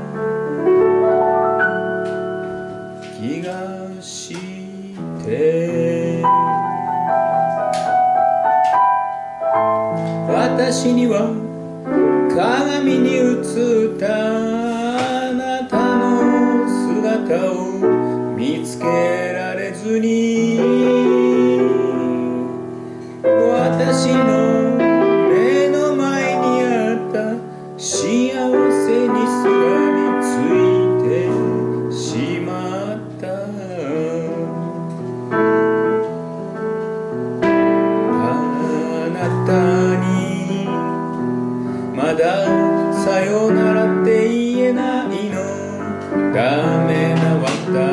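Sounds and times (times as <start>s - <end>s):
piano chords: 0.0s - 47.9s.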